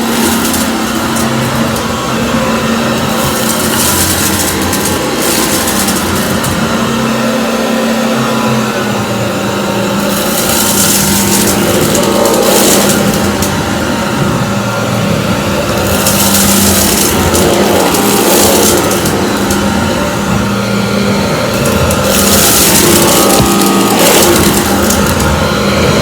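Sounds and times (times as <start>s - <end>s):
vacuum cleaner motor hum: 0.0s - 26.0s
vacuum picking up debris hiss: 0.0s - 26.0s.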